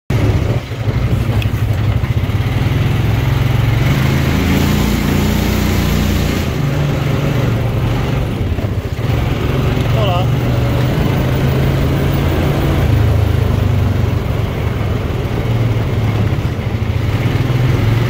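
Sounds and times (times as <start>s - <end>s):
quad bike engine running: 0.1s - 18.0s.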